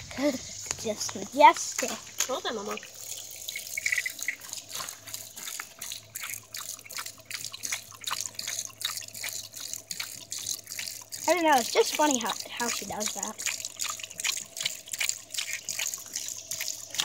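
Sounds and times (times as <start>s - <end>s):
water dripping: 0.0s - 17.0s
dog lapping water: 0.1s - 17.0s.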